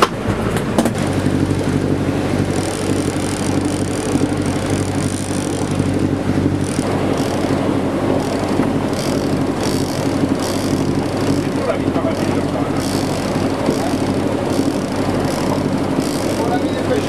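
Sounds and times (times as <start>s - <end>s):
boat engine running: 0.0s - 17.0s
churning wake rushing: 0.0s - 17.0s.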